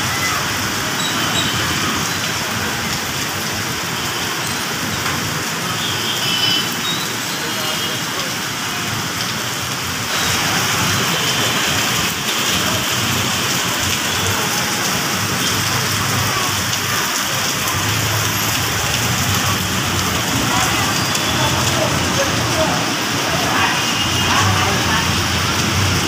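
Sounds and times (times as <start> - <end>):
heavy pouring rain: 0.0 - 26.0.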